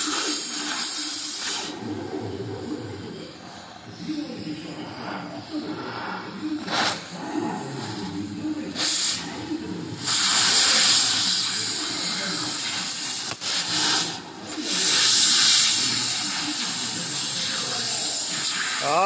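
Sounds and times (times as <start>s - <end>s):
cutting torch hissing: 0.0s - 19.0s.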